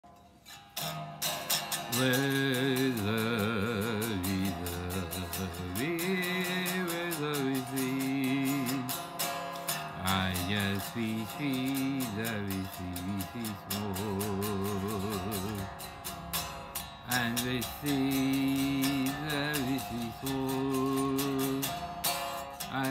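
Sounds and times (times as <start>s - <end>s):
electric guitar lead melody: 0.8s - 22.9s.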